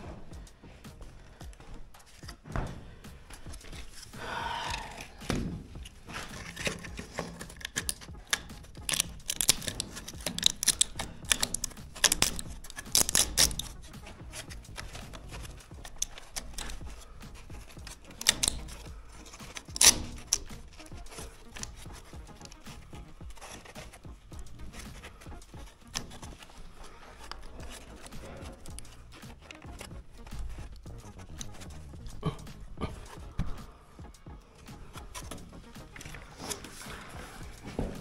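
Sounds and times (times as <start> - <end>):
rustling: 0.0 - 38.0
scratchy tearing sound: 3.1 - 38.0
clicks and taps: 3.3 - 38.0.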